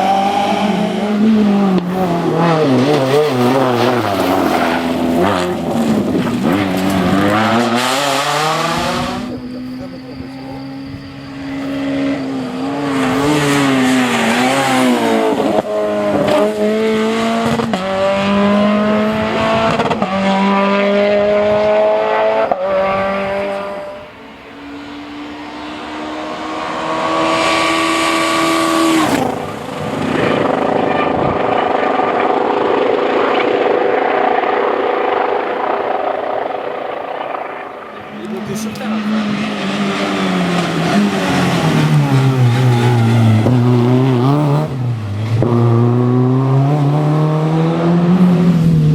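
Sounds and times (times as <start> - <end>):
rally car engine accelerating: 0.0 - 48.9.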